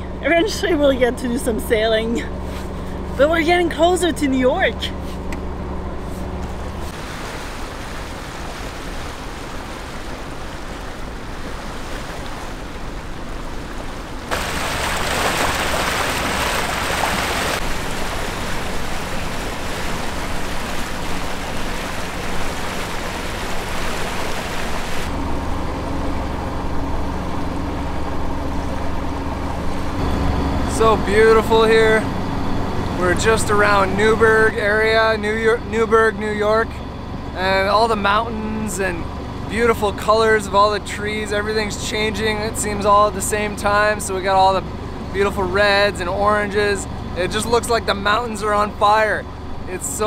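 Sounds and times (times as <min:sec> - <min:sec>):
boat engine humming: 0:00.0 - 0:50.0
water rushing along hull: 0:00.0 - 0:50.0.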